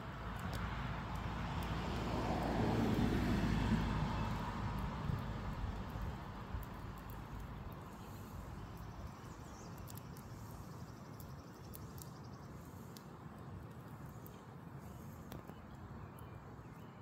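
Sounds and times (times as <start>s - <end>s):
fire crackling and popping: 0.0s - 16.8s.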